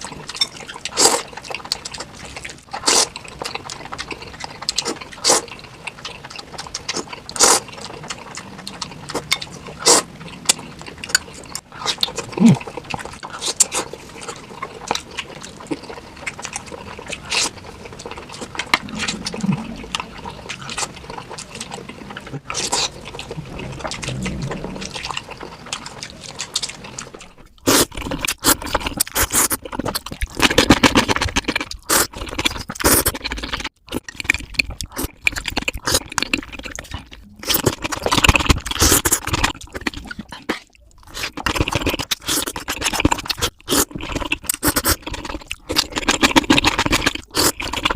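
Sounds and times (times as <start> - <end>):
fast chewing and crunching: 0.0 - 47.9.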